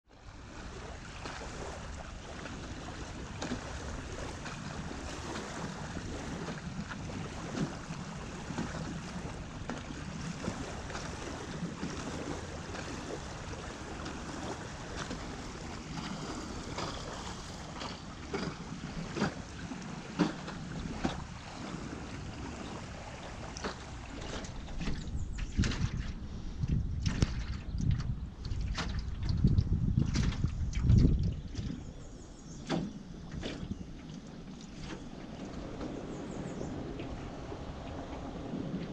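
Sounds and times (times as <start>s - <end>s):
water moving around canoe hull: 0.0s - 38.9s
wind on microphone: 0.1s - 38.9s.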